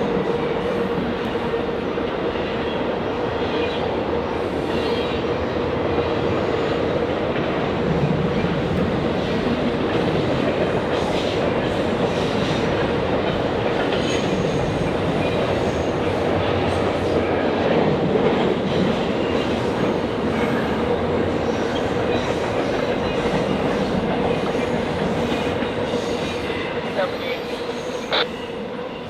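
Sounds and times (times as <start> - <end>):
train rumbling past on rails: 0.0 - 29.0.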